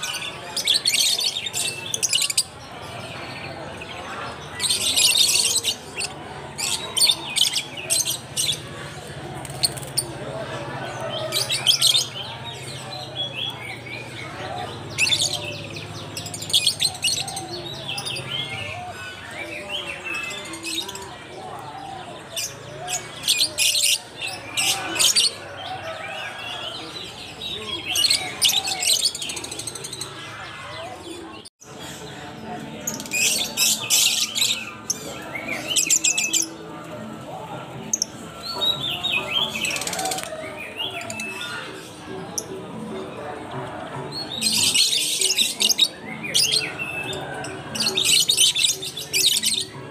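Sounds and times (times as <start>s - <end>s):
lovebirds chirping and squawking: 0.0s - 49.9s.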